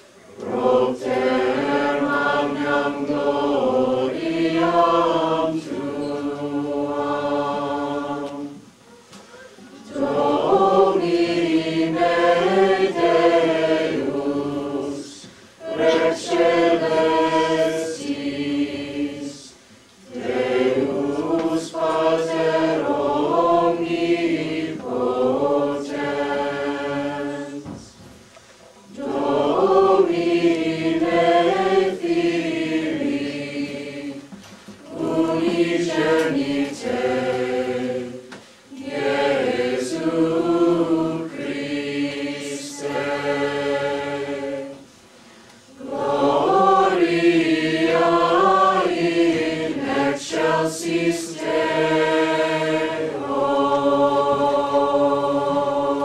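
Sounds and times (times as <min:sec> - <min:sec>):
mixed choir singing: 0:00.0 - 0:08.8, 0:09.8 - 0:28.0, 0:28.9 - 0:56.0.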